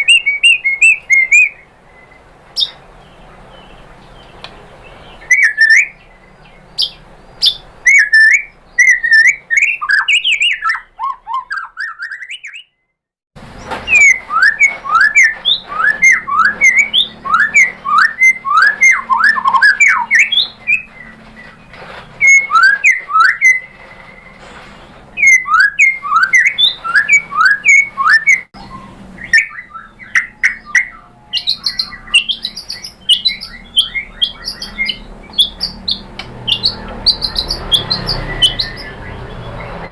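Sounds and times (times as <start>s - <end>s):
bird singing sharp chips and whistles: 0.0s - 12.8s, 13.6s - 39.9s.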